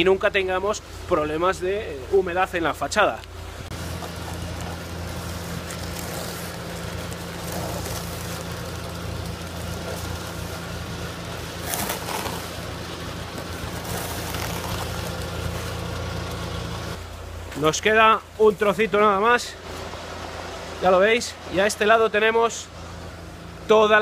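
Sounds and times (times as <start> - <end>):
concrete pump engine drone: 0.0 - 24.0.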